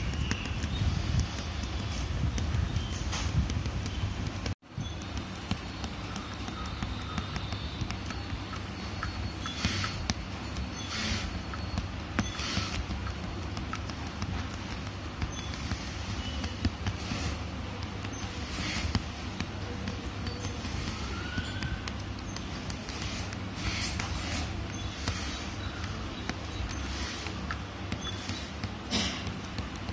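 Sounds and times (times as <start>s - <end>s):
light ticks and taps: 0.0s - 29.9s.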